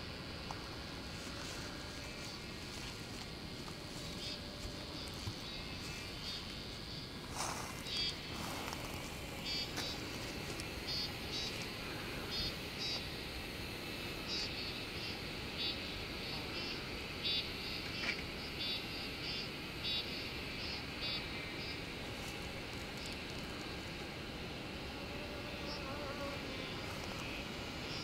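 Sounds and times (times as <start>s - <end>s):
insects chirping: 0.0s - 28.0s
low background rush: 0.0s - 28.0s.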